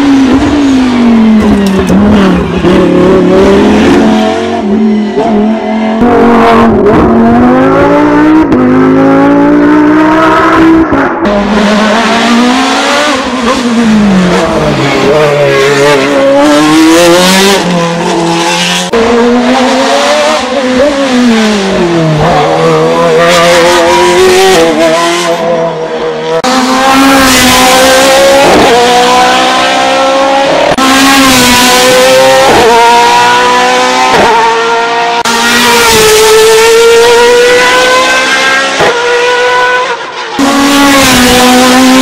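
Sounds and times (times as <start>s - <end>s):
racing car engine at high revs: 0.0s - 42.0s.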